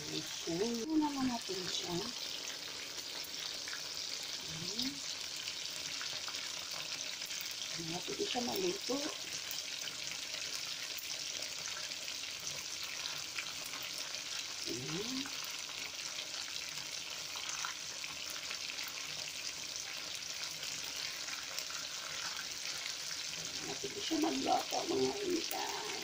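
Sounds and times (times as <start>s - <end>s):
chicken frying in hot oil: 0.0s - 26.0s.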